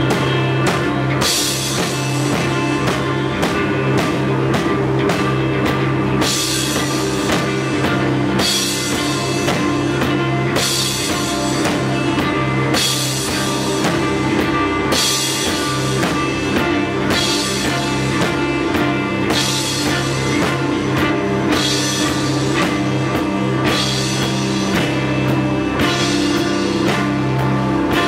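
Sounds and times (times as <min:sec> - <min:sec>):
drums driving beat: 0:00.0 - 0:28.0.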